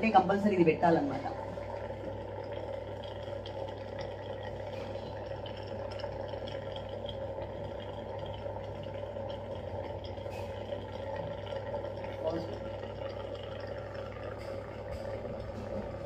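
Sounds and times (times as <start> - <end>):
facial steamer boiling water: 0.0 - 16.0
small bubbling pops: 0.0 - 16.0.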